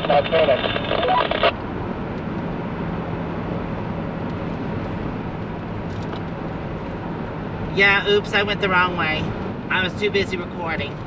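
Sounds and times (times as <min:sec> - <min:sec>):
engine and tyre drone: 0:00.0 - 0:11.0.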